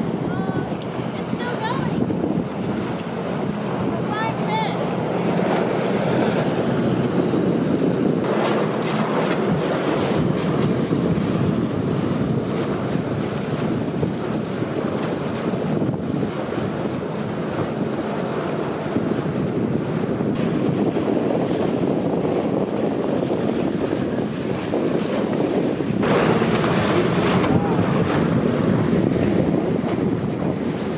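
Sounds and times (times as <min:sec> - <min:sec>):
water rushing along hulls: 0:00.0 - 0:30.9
wind on microphone: 0:00.0 - 0:30.9.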